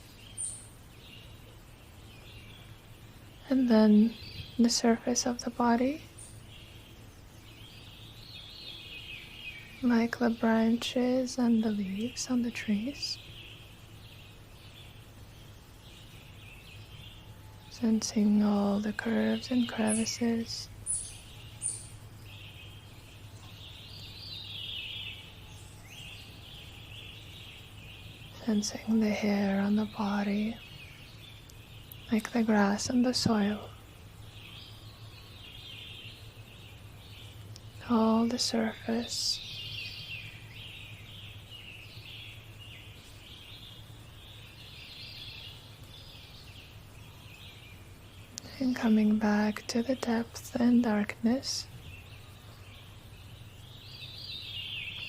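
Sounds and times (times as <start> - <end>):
birds chirping: 0.0 - 55.0
steady low hum: 0.0 - 55.0.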